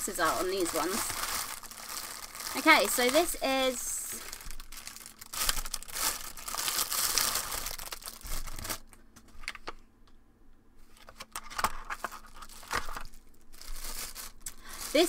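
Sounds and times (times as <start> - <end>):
plastic packaging crinkling: 0.1 - 9.8, 11.0 - 15.0.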